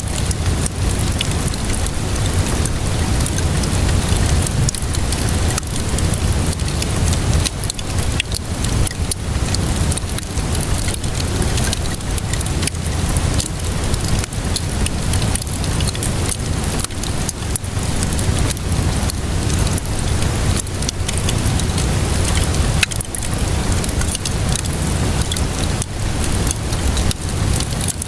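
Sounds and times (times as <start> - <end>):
steady rainfall hiss: 0.0 - 28.0
wood fire popping and crackling: 0.0 - 28.0.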